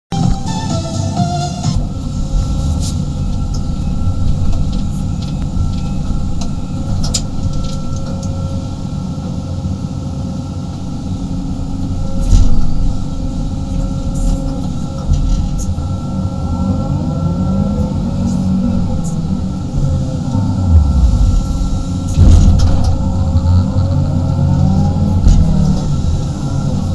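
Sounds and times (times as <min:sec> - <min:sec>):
excavator engine drone and whine: 0:00.1 - 0:26.9.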